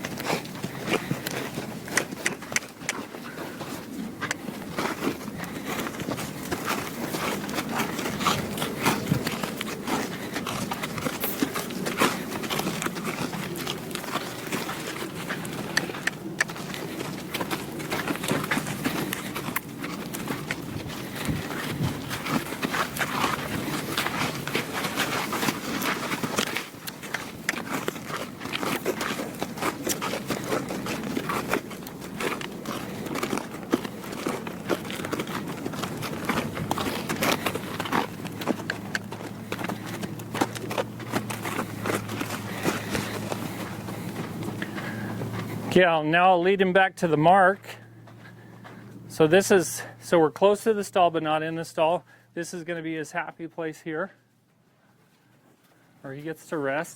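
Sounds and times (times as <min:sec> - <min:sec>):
footsteps on dirt: 0:00.0 - 0:56.9
horse hoofbeats thudding: 0:00.0 - 0:56.9
steady background noise: 0:00.0 - 0:56.9.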